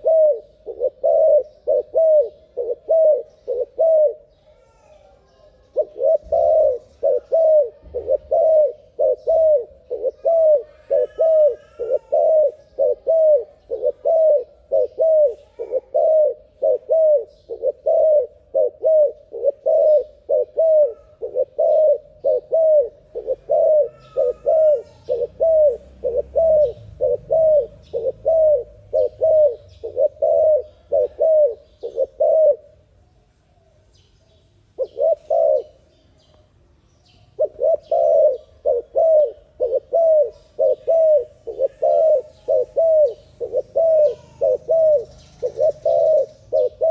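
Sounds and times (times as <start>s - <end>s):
dove cooing: 0.0s - 32.9s, 34.8s - 36.0s, 37.3s - 46.9s
faint bird chirps: 0.0s - 46.9s.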